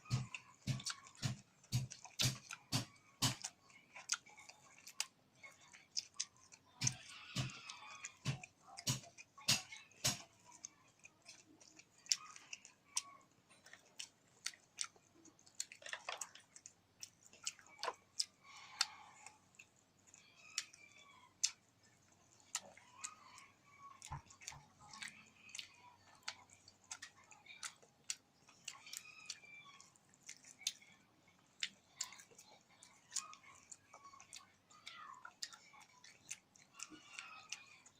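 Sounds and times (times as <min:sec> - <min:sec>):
person chewing: 0:00.0 - 0:37.9.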